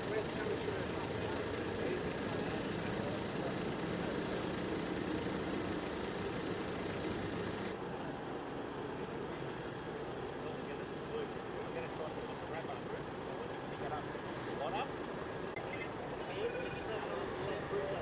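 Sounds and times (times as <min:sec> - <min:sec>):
vehicle engine rumble: 0:00.0 - 0:16.2.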